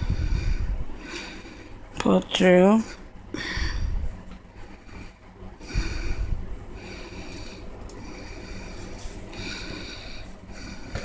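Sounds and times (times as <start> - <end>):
heavy nasal breaths: 0.0 - 1.9, 2.9 - 11.0.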